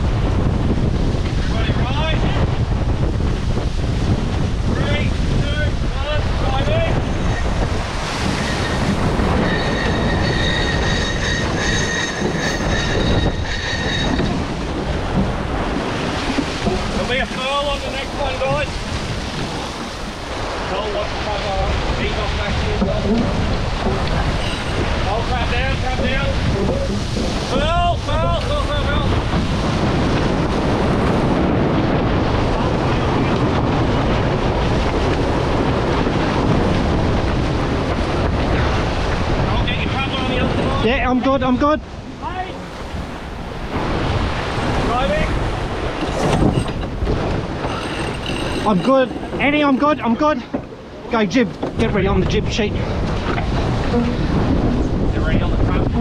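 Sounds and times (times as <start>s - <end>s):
water rushing past hulls: 0.0s - 56.0s
wind buffeting microphone: 0.0s - 56.0s.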